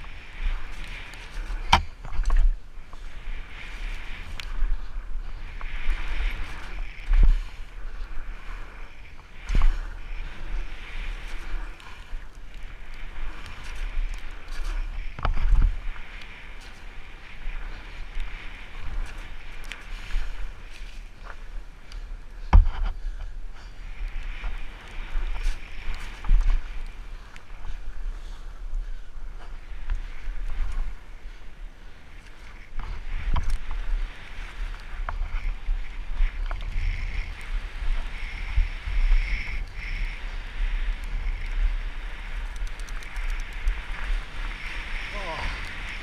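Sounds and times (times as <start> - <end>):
wind on microphone: 0.0 - 46.0.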